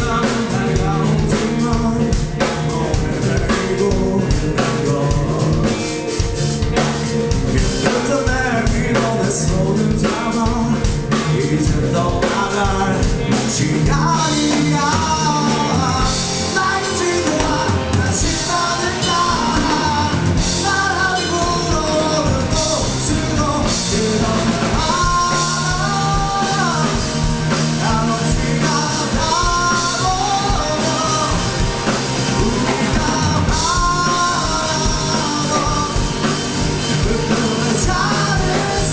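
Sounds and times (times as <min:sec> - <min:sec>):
melodic lead line: 0:00.0 - 0:38.9
rock band playing live: 0:00.0 - 0:38.9.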